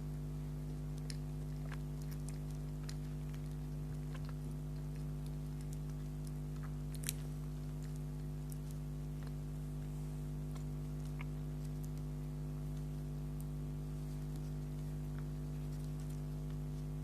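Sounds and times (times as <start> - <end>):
soft chewing: 0.0 - 17.0
steady low hum: 0.0 - 17.0.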